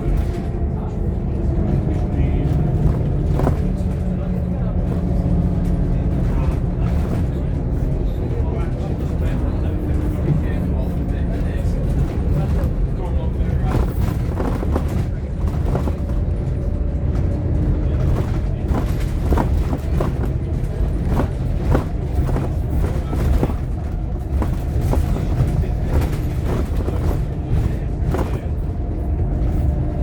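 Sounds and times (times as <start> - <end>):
bus engine and road rumble: 0.0 - 30.0
rattles and clicks from bus body: 0.0 - 30.0.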